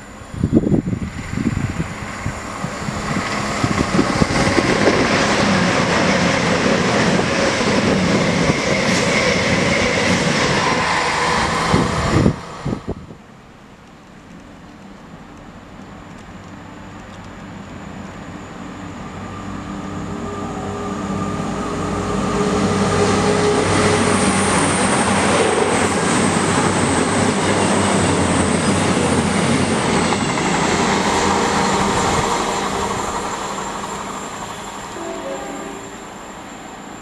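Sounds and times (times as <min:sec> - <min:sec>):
diesel train engine: 0:00.0 - 0:37.0
wheel-on-rail noise: 0:00.0 - 0:37.0.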